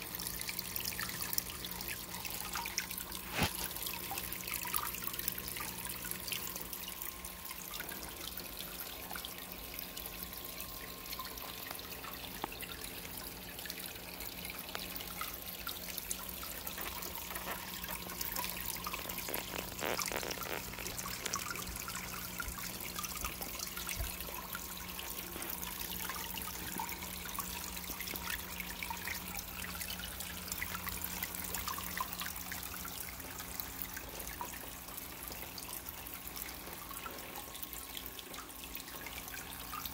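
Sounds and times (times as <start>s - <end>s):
faint steady hum: 0.0s - 39.9s
water trickling and dripping: 0.0s - 39.9s.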